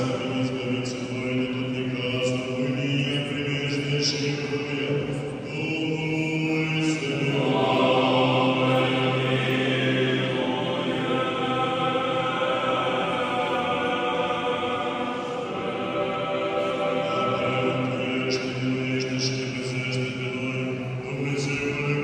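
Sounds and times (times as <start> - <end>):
choir singing liturgical chant: 0.0 - 22.0.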